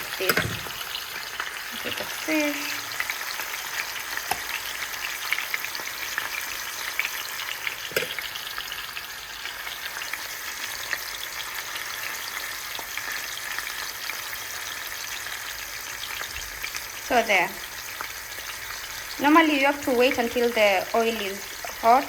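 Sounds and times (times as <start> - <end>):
fish frying in oil: 0.0 - 22.0.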